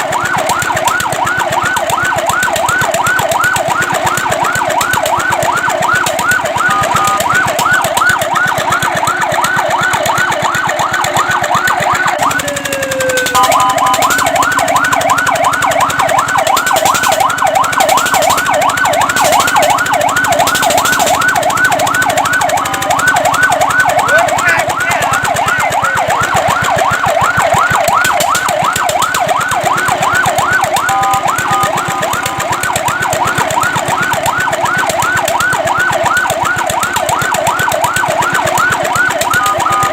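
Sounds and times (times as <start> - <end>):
fire truck siren yelping: 0.0 - 39.9.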